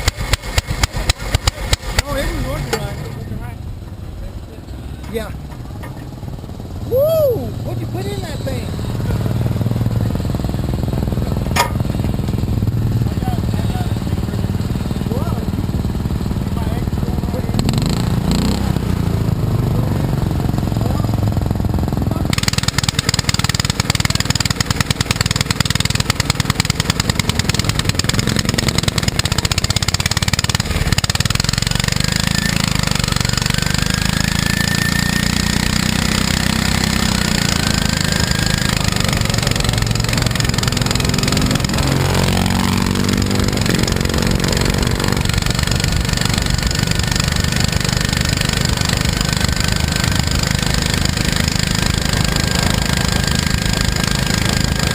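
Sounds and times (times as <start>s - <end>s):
engine revving: 0.0s - 3.7s, 6.3s - 54.9s
lawn mower engines racing: 0.0s - 54.9s.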